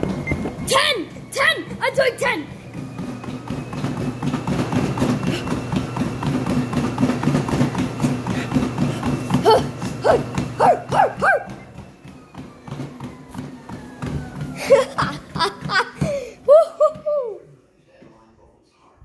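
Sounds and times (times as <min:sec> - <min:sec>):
running footfalls on treadmill belt: 0:00.0 - 0:17.4
treadmill motor whining: 0:00.0 - 0:18.2.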